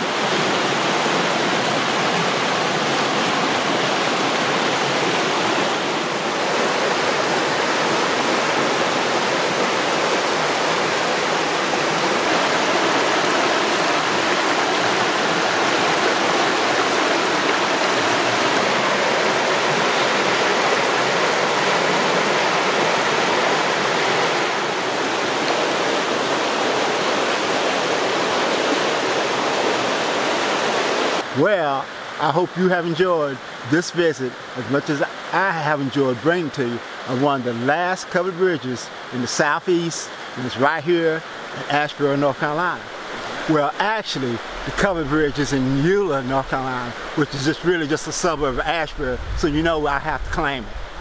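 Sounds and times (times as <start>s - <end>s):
fast water rushing: 0.0s - 51.0s.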